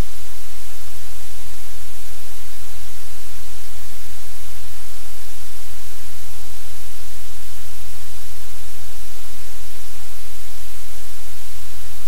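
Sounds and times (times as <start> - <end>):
static hiss: 0.0 - 12.0.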